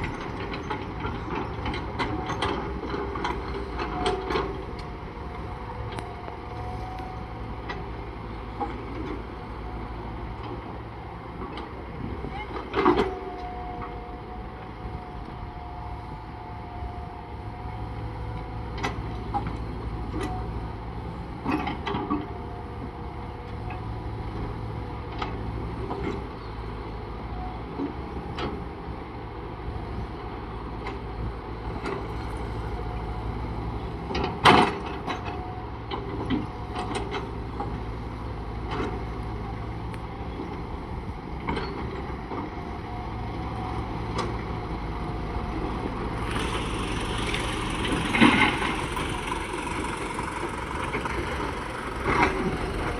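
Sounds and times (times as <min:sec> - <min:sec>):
machinery hum with low rumble: 0:00.0 - 0:52.9.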